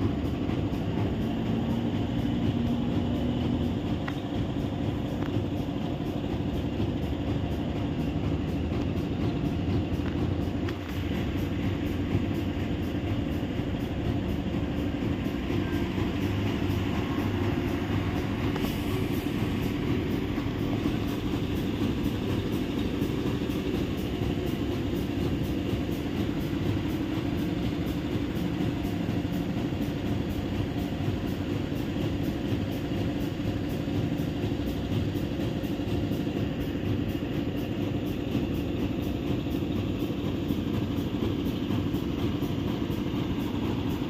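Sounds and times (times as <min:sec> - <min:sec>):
excavator engine low drone: 0:00.0 - 0:44.0.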